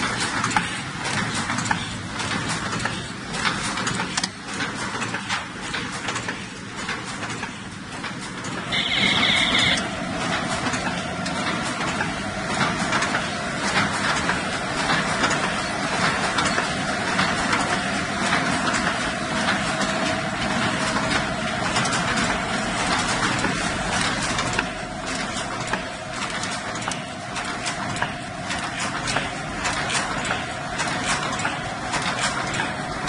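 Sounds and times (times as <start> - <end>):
constant machine hum: 0.0 - 33.0
machine clattering with rapid clicks: 0.0 - 33.0.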